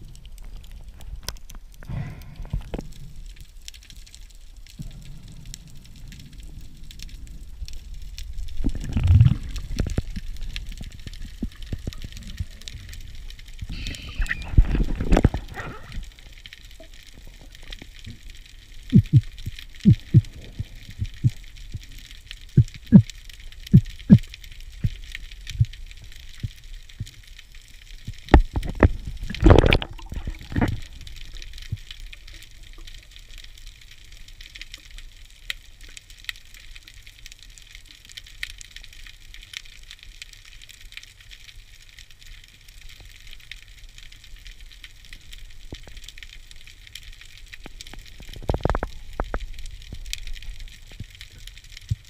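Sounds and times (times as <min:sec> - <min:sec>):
faint underwater crackle: 0:00.0 - 0:52.0.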